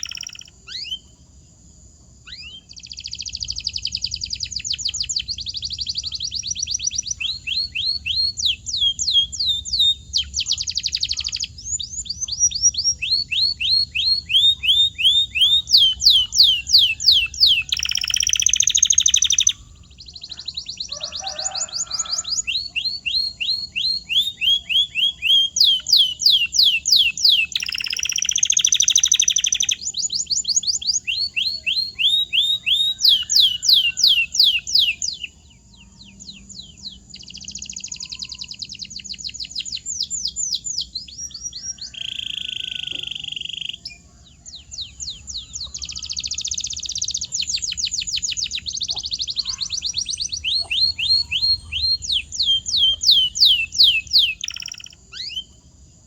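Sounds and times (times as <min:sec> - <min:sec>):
canary singing: 0:00.0 - 0:01.2, 0:02.3 - 0:56.0.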